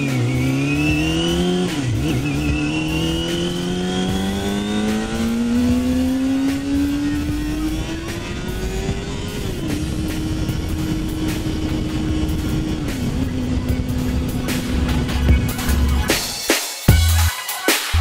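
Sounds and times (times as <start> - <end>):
motorcycle engine accelerating: 0.0 - 17.1.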